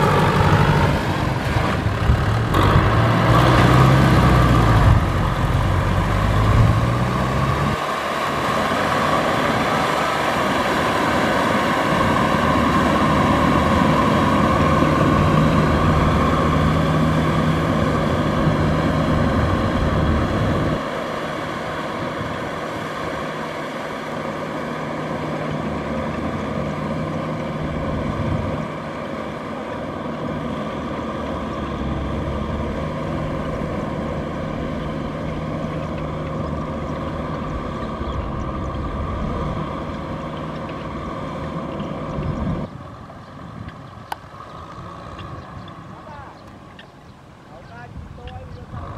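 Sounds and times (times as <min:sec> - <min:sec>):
tractor engine running under load: 0:00.0 - 0:48.9.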